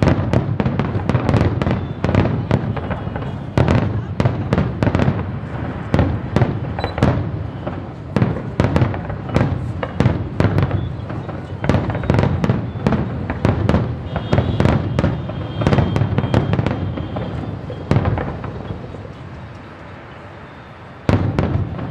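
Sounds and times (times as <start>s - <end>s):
fireworks bangs and crackles: 0.0s - 21.9s.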